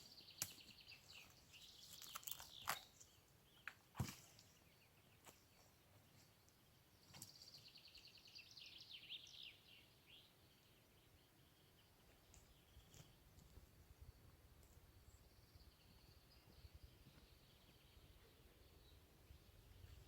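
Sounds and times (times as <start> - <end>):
bird singing: 0.0 - 20.0
faint outdoor ambience: 0.0 - 20.0.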